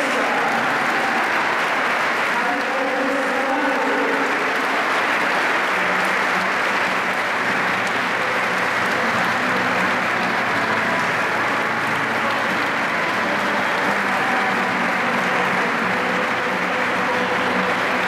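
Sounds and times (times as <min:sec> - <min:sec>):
large crowd applauding: 0:00.0 - 0:18.0.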